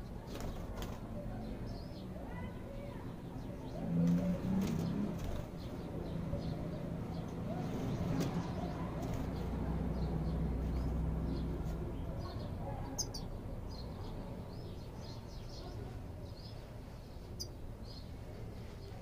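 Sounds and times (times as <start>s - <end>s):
birds twittering: 0.0s - 19.0s.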